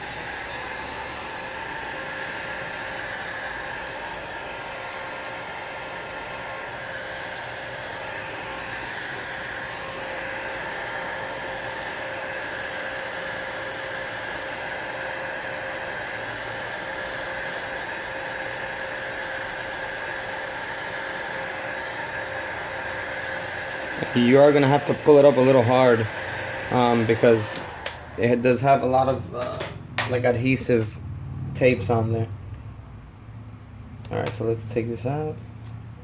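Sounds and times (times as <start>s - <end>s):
hot-air blower whining: 0.0s - 32.2s.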